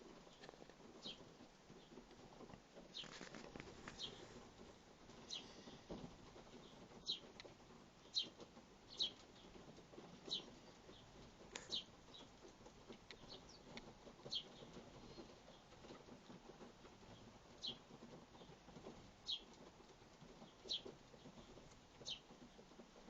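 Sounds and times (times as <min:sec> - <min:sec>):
soft rustling: 0:00.0 - 0:23.0
sparrows chirping: 0:00.2 - 0:02.0, 0:02.9 - 0:04.4, 0:05.2 - 0:15.9, 0:17.0 - 0:19.6, 0:20.3 - 0:22.7.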